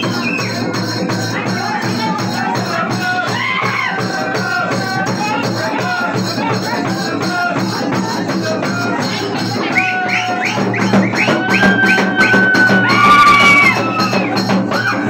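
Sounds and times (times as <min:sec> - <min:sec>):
drums with rattling shakers: 0:00.0 - 0:15.0
high held melody: 0:00.0 - 0:15.0.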